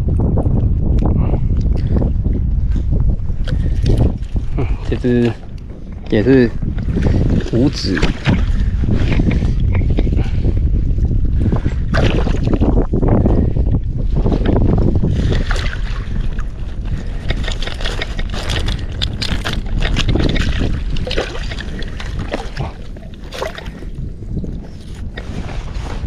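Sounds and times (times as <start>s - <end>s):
wind buffeting microphone: 0.0s - 26.0s
water sloshing and splashing: 3.4s - 10.6s, 11.7s - 26.0s.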